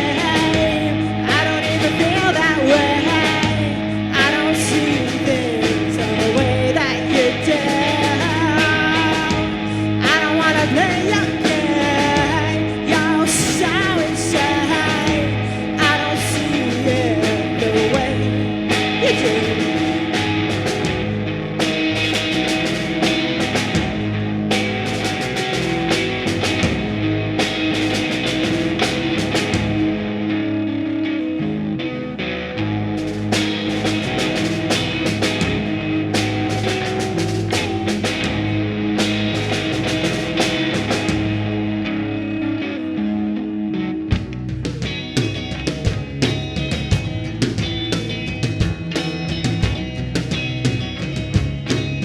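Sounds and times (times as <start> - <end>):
drum kit and cymbals: 0.0 - 29.9, 33.0 - 41.6, 44.1 - 52.0
guitar and bass notes: 0.0 - 52.0
rock band playing live: 0.0 - 52.0.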